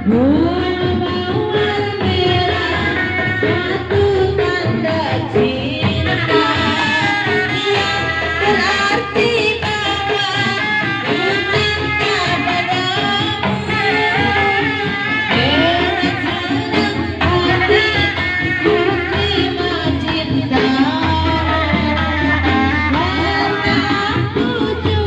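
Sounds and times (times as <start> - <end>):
drums: 0.0 - 25.0
wavering held melody: 0.0 - 25.0.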